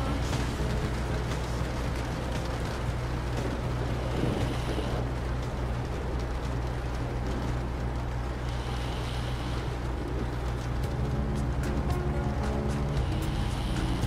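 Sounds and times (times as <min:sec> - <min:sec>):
low rumble: 0:00.0 - 0:14.0
rain: 0:00.0 - 0:14.0
wind: 0:00.0 - 0:14.0.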